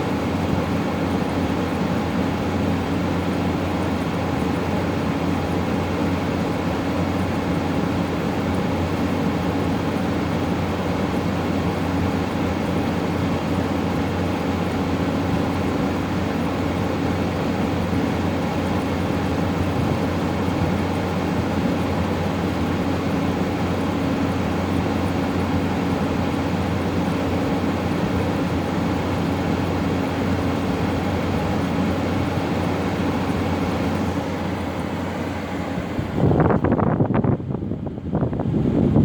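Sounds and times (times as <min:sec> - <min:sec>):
window air conditioner humming: 0:00.0 - 0:39.0.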